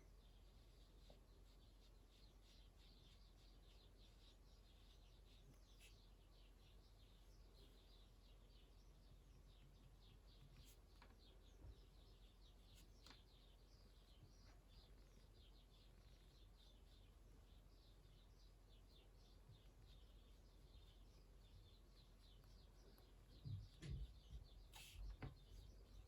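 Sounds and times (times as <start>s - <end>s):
distant bird chirping: 0.0s - 26.0s.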